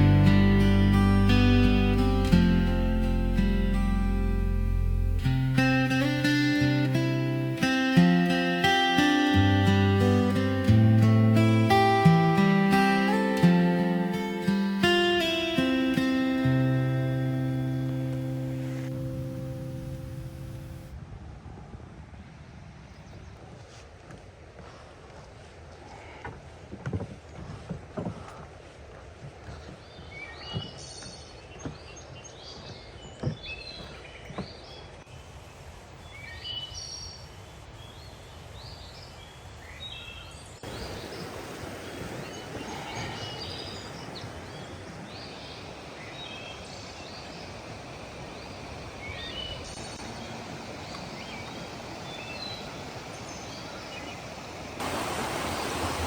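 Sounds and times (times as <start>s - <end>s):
birds chirping: 0.0s - 20.9s, 29.8s - 56.0s
steady outdoor hiss: 0.0s - 56.0s.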